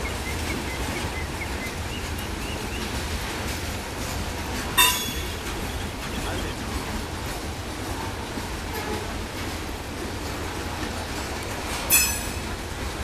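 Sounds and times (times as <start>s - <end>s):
steam train rumbling past: 0.0s - 13.0s.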